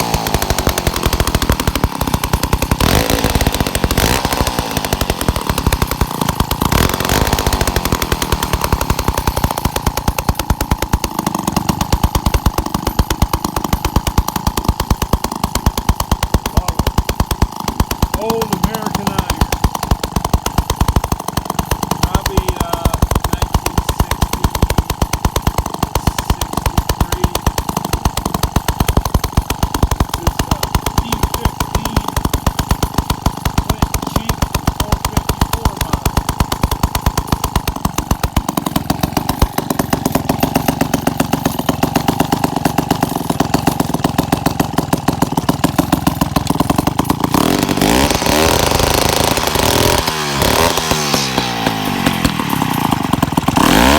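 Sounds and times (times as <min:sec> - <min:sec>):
chainsaw engine running: 0:00.0 - 0:53.9.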